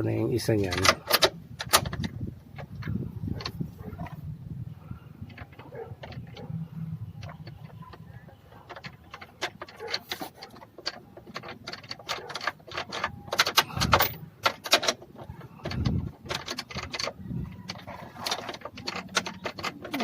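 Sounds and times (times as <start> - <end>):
tools and metal parts clanking: 0.4 - 4.2, 5.2 - 20.0.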